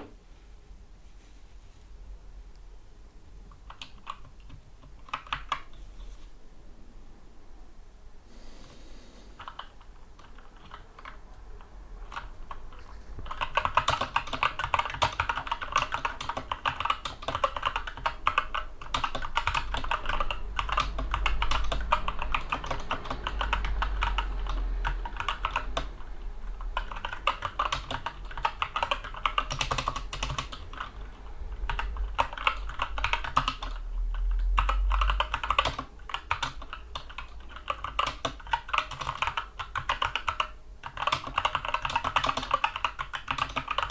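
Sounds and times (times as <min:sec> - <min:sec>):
typing on mechanical keyboard: 0:03.6 - 0:05.8, 0:09.4 - 0:43.9.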